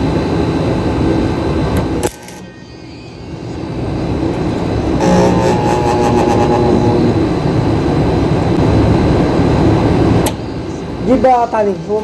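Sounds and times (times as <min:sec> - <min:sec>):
air conditioner unit humming: 0:00.0 - 0:12.0
steady whining tones: 0:00.0 - 0:12.0.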